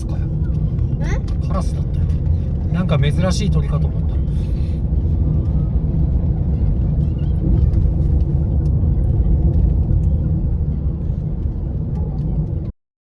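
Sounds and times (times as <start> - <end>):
loud low rumble: 0.0 - 12.7.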